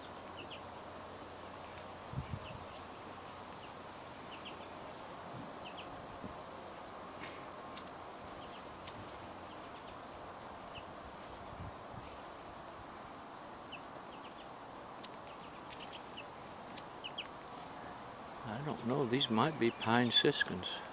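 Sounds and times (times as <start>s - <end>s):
small songbirds chirping: 0.0s - 20.9s
steady background hiss: 0.0s - 20.9s.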